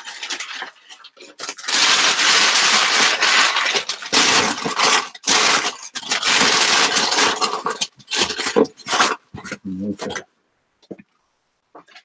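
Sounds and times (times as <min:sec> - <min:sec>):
packing fill crinkling: 0:00.0 - 0:10.2.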